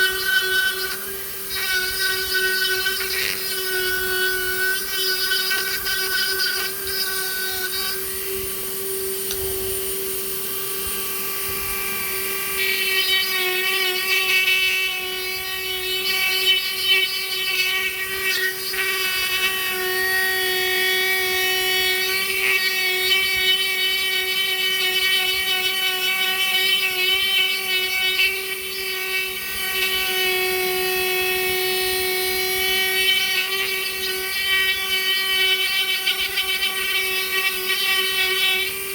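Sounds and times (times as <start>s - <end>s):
power tool whining: 0.0s - 38.9s
tool cutting wood: 0.0s - 38.9s.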